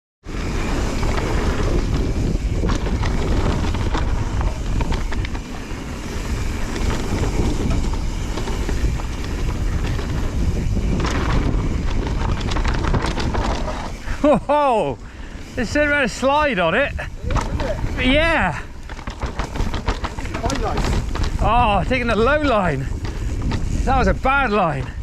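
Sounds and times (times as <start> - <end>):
tyres rumbling on dirt: 0.2 - 25.0
wind buffeting microphone: 0.2 - 25.0
bike clicks and rattles: 0.3 - 25.0.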